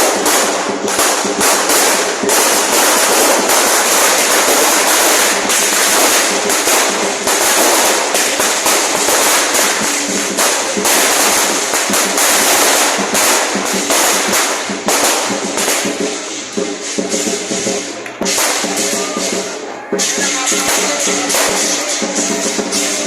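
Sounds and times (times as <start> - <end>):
cymbals: 0.0 - 23.0
drumming: 0.0 - 23.0
firecrackers crackling: 0.0 - 23.0.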